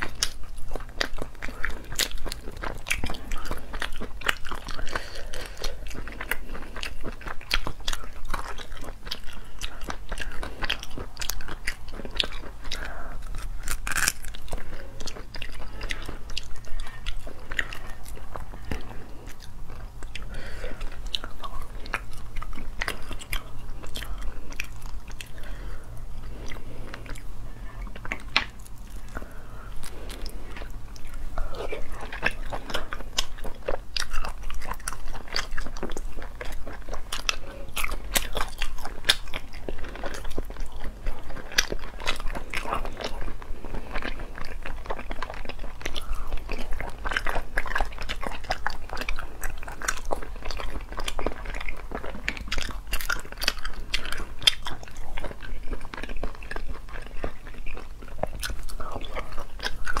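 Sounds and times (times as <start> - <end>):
crunchy chewing: 0.0 - 60.0.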